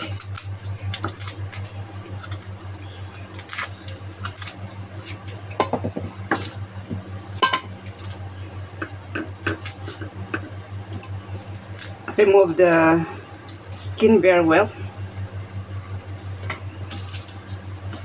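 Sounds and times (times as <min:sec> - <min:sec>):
garlic cloves peeled by hand: 0:00.0 - 0:18.0
steady low hum: 0:00.0 - 0:18.0.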